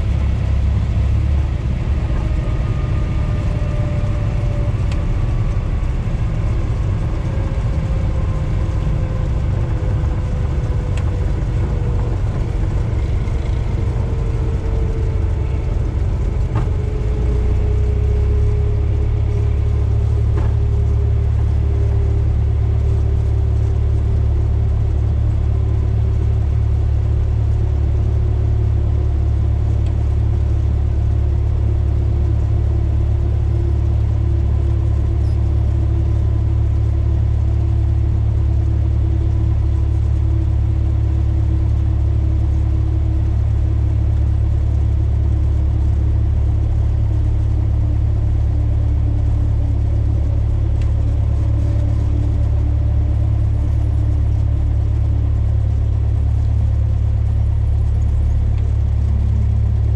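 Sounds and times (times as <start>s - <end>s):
airplane engine rumble in cabin: 0.0s - 59.9s.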